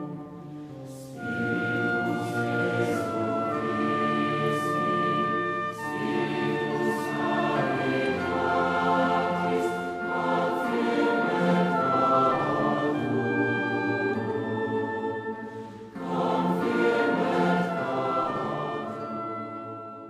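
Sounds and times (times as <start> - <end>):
choir singing held chords: 0.0 - 20.0.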